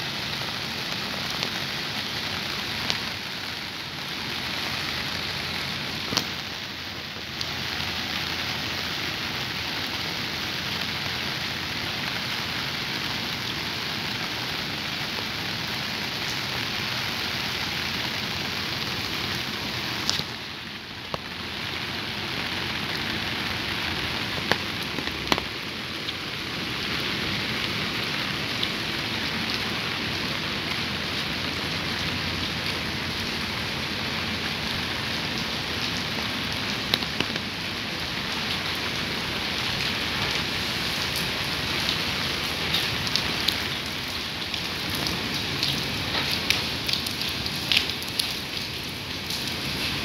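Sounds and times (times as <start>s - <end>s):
rain on a paved road: 0.0s - 50.0s.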